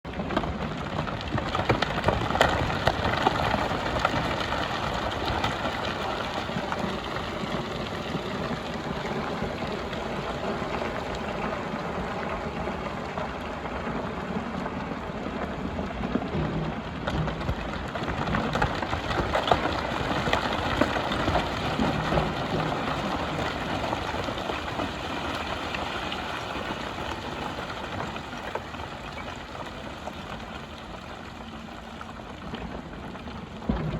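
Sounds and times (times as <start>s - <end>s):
gravel rattling in bucket: 0.1s - 33.9s.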